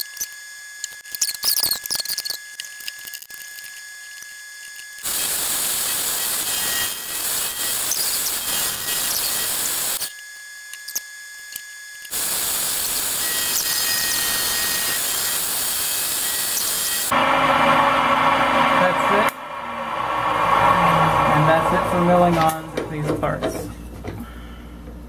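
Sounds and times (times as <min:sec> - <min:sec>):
milling machine cutting metal: 0:00.0 - 0:23.6.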